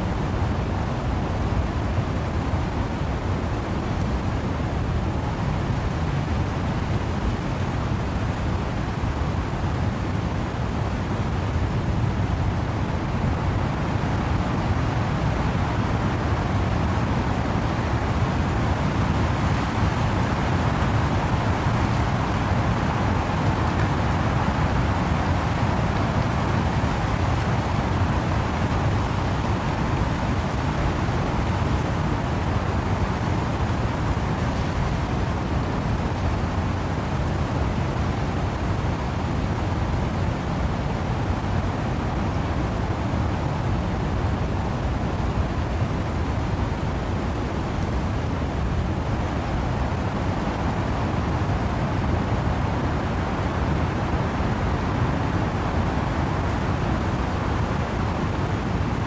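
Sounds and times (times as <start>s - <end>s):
wind and rain through trees: 0.0s - 59.0s.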